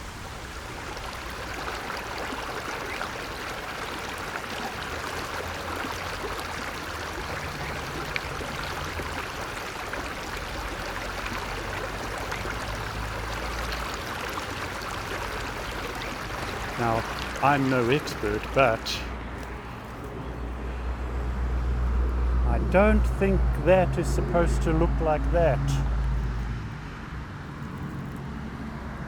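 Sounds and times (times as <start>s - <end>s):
stream water running: 0.0s - 29.0s.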